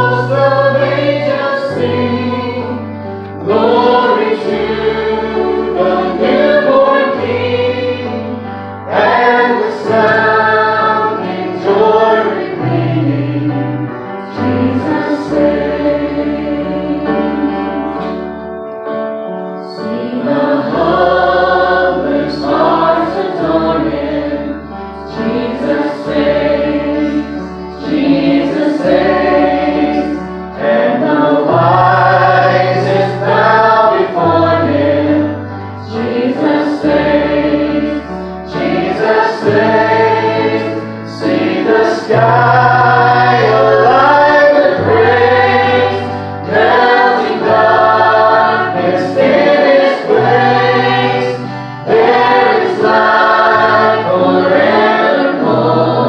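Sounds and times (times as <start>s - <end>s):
vocal group singing a hymn: 0.0s - 18.4s, 19.4s - 56.0s.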